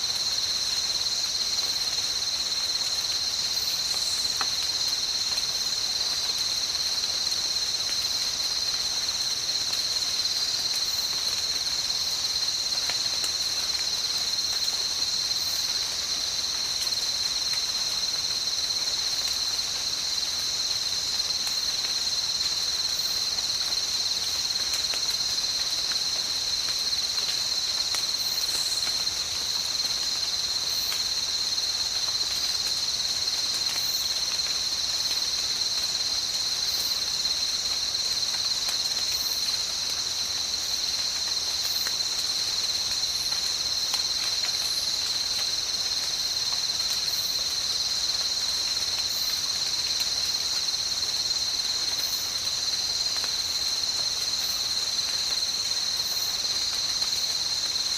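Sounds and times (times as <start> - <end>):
light rain hiss: 0.0 - 57.9.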